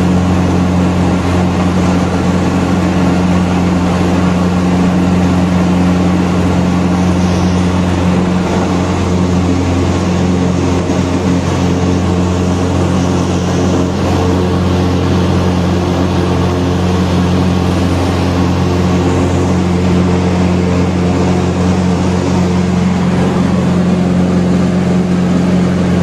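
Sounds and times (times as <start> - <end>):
light aircraft engine and propeller drone: 0.0 - 26.0.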